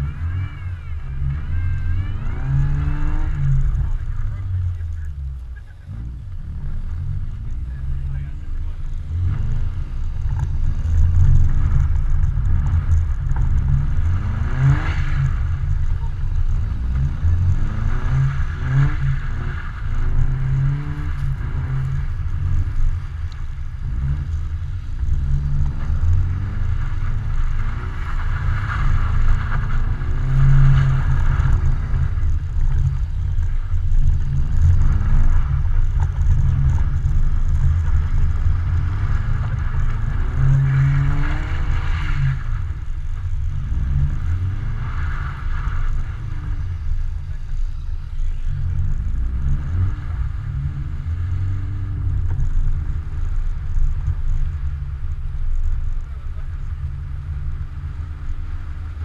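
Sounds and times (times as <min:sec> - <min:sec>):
car engine revving: 0:00.0 - 0:59.0
heavy low rumble: 0:00.0 - 0:59.0.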